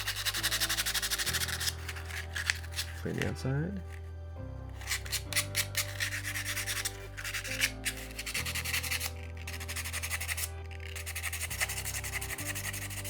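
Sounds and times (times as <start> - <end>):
sandpaper rubbing on metal: 0.0 - 3.3, 4.8 - 13.0.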